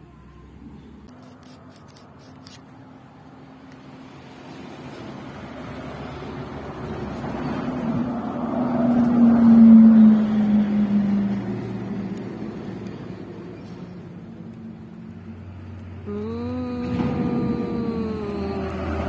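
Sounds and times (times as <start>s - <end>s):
vehicle passing by: 2.7s - 19.0s.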